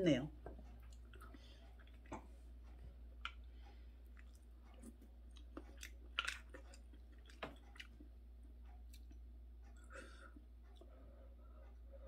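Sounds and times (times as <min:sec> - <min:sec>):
person chewing food: 0:00.4 - 0:12.0.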